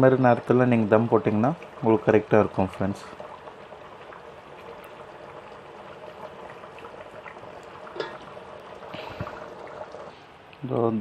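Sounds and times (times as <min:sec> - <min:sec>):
pot boiling with bubbling: 0:00.0 - 0:10.9.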